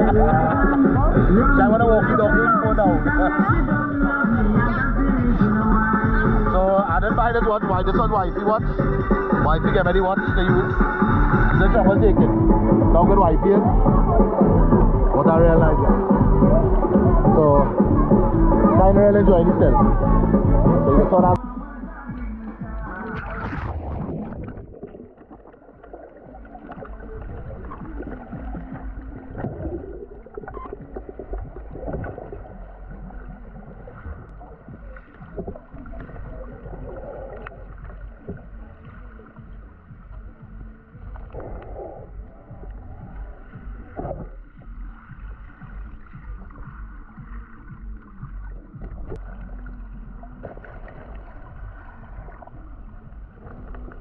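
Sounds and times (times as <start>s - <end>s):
underwater river rushing: 0.0s - 54.0s.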